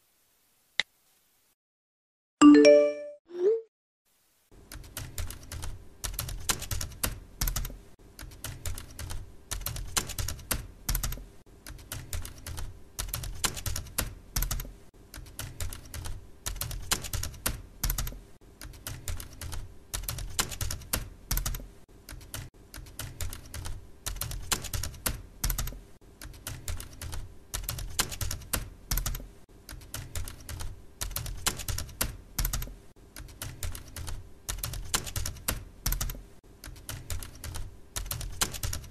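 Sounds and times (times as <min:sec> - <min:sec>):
fast typing on keyboard: 0:04.6 - 0:38.9.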